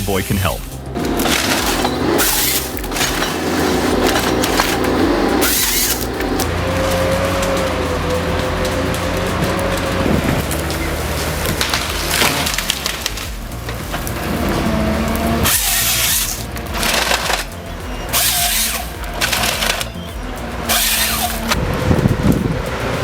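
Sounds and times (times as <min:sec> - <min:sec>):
heavy machine engine running: 0:00.0 - 0:23.0
wood cracking and splintering: 0:00.6 - 0:22.8.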